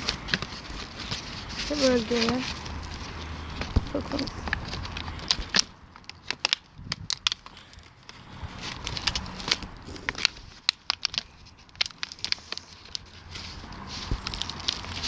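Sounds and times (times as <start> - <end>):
plastic bottle crackling: 0.0 - 15.0.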